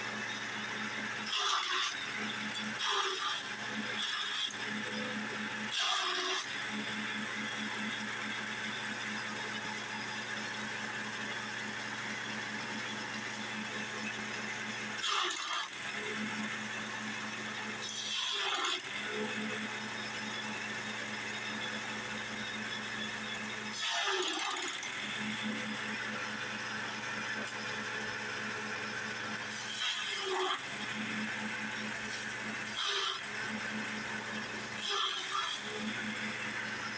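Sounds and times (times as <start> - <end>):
grass chopper machine running: 0.0 - 36.9.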